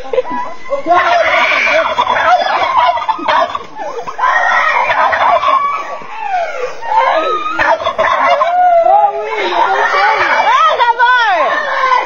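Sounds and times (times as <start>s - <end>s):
fowl calling: 0.3s - 12.0s.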